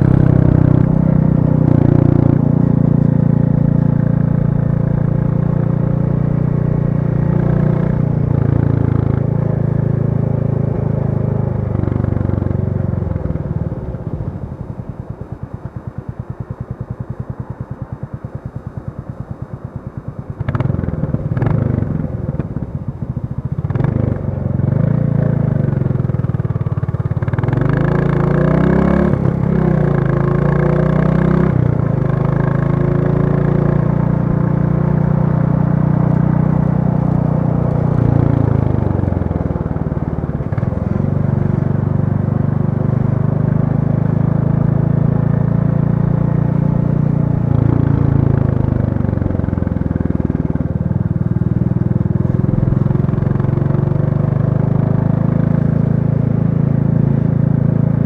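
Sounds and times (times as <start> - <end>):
motorcycle engine idling and accelerating: 0.0 - 58.0.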